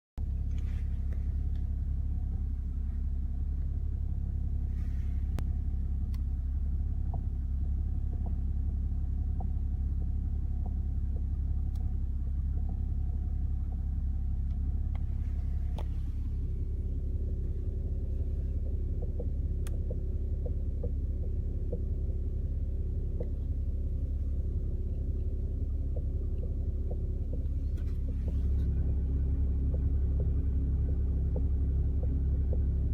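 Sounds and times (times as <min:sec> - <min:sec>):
car engine rumbling: 0:00.2 - 0:32.9.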